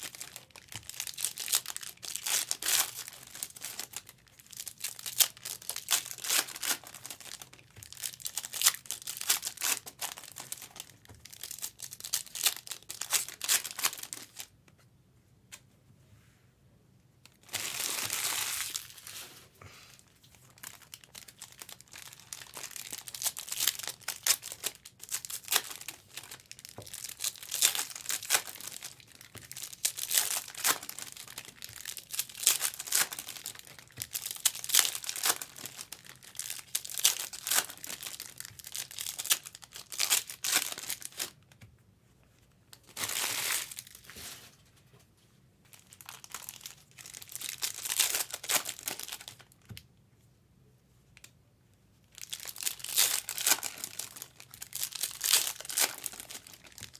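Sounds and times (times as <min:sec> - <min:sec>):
plastic wrapping crinkling: 0:00.0 - 0:14.5, 0:17.3 - 0:41.5, 0:42.7 - 0:44.7, 0:45.7 - 0:49.6, 0:52.1 - 0:56.9
plastic wrapping ripping: 0:00.0 - 0:14.5, 0:17.4 - 0:19.3, 0:20.5 - 0:41.4, 0:42.8 - 0:44.4, 0:45.8 - 0:49.4, 0:52.2 - 0:56.9.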